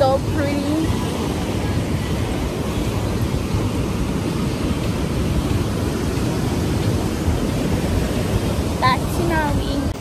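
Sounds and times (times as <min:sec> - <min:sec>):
ocean surf breaking on beach: 0:00.0 - 0:10.0.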